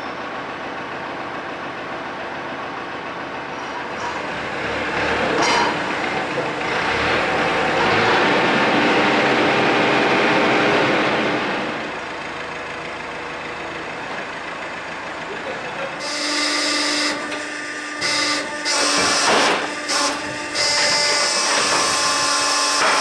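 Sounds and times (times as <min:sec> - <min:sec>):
machine engine running: 0:00.0 - 0:23.0.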